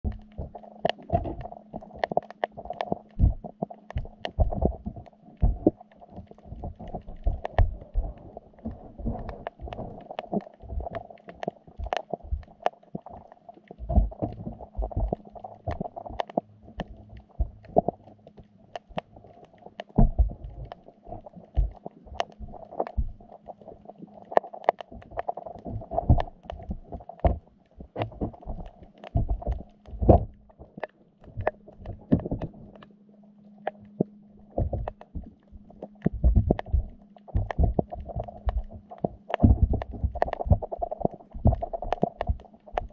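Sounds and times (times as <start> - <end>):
muffled underwater thuds: 0.0 - 2.1, 2.7 - 13.0, 13.8 - 18.0, 19.9 - 23.3, 24.9 - 32.8, 33.7 - 42.9
steady low hum: 0.0 - 42.9
underwater clicks and knocks: 0.0 - 42.9.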